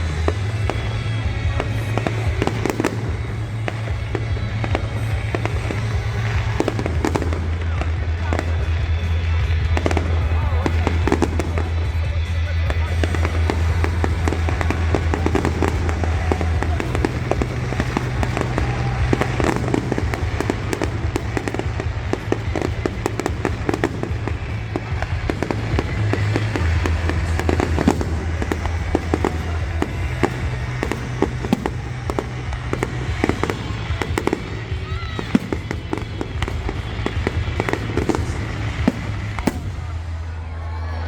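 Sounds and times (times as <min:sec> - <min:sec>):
fireworks bangs and crackles: 0:00.0 - 0:41.0
music with deep bass: 0:00.0 - 0:41.0.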